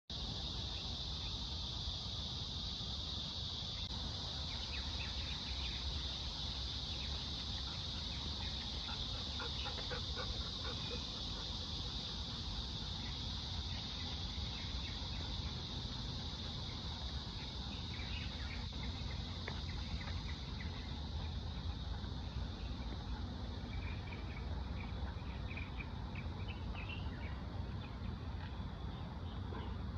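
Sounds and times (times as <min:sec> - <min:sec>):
cicadas droning: 0:00.1 - 0:29.9.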